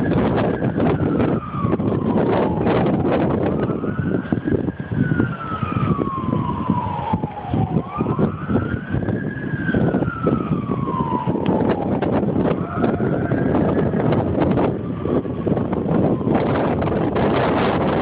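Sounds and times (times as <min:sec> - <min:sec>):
siren wailing: 0:00.0 - 0:18.0
wind buffeting microphone: 0:00.0 - 0:18.0.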